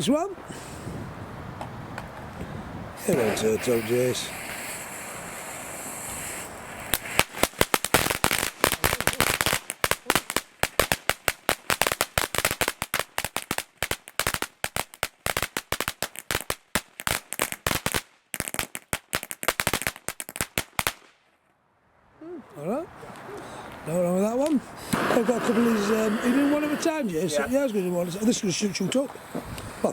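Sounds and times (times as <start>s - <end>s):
firework hiss: 3.0s - 21.1s, 23.6s - 29.9s
firework crackling: 3.0s - 21.4s, 23.1s - 29.9s.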